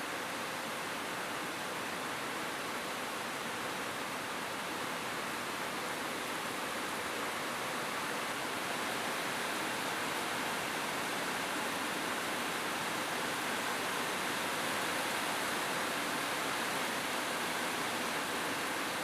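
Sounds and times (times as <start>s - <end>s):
rain on a roof: 0.0s - 19.0s.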